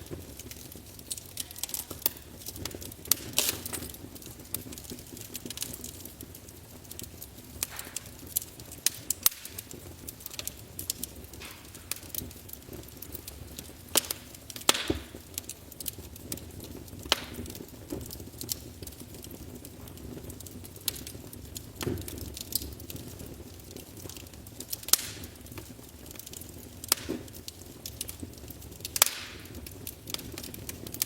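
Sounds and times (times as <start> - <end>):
rush of flames: 0.0 - 31.0
wood fire snapping and popping: 0.0 - 31.0.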